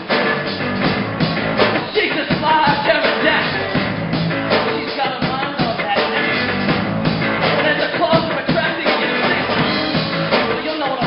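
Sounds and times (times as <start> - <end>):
drum kit hits: 0.0 - 11.0
electric guitars: 0.0 - 11.0.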